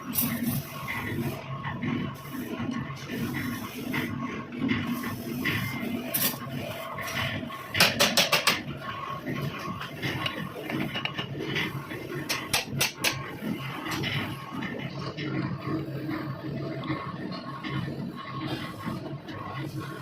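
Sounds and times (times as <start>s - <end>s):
workshop background noise: 0.0s - 20.0s.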